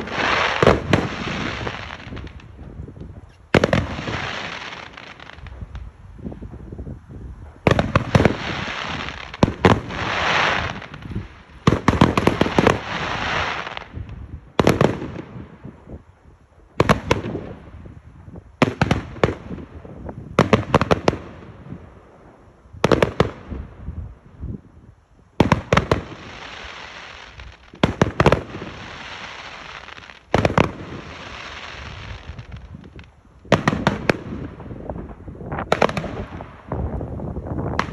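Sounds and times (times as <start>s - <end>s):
firework bangs: 0.0s - 6.8s, 7.4s - 15.6s, 18.6s - 21.9s, 22.8s - 23.9s, 25.4s - 37.9s
firework crackling hiss: 0.0s - 37.9s.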